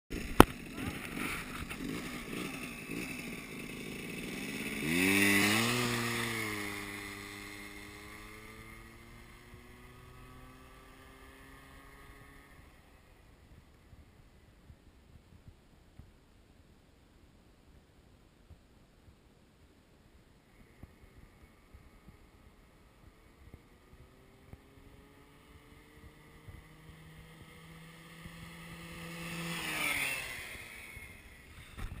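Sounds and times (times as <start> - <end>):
scooter engine pulling away: 0.1 - 14.2, 20.5 - 32.0.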